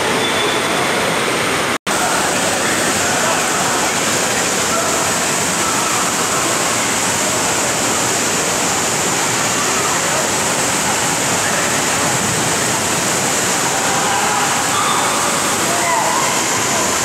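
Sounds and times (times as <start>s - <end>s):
faint voices of swimmers: 0.0s - 17.0s
water rushing and splashing: 0.0s - 17.0s.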